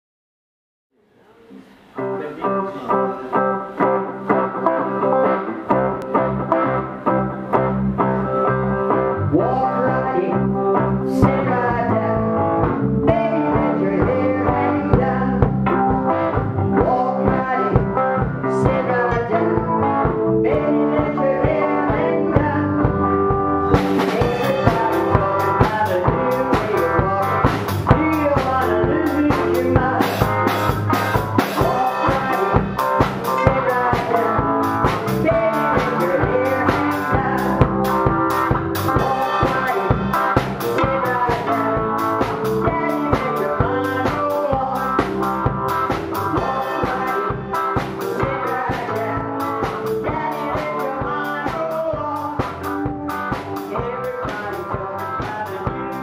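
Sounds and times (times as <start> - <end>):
blues-rock band music: 2.0 - 56.0
drum kit beat: 2.0 - 56.0.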